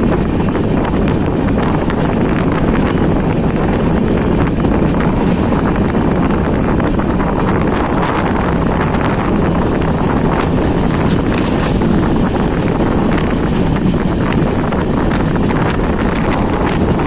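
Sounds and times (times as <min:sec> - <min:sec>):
train rumbling along track: 0:00.0 - 0:17.0
wind buffeting microphone: 0:00.0 - 0:17.0.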